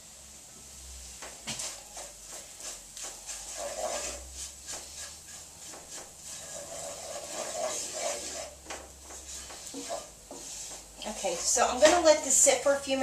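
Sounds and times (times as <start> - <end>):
wooden spoon scraping frying pan: 1.0 - 13.0.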